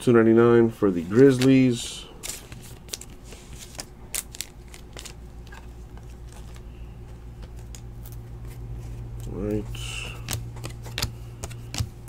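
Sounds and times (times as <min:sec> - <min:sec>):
steady low hum: 0:00.0 - 0:12.0
trading cards flipped by hand: 0:01.0 - 0:01.6, 0:02.2 - 0:12.0.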